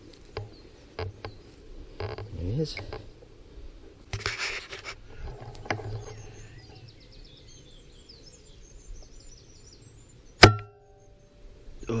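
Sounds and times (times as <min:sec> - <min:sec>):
small birds chirping: 0:00.0 - 0:04.0, 0:04.8 - 0:12.0.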